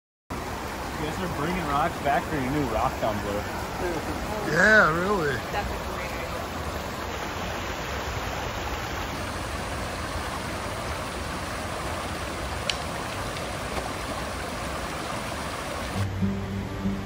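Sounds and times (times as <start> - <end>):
stream rushing over rocks: 0.3 - 17.0.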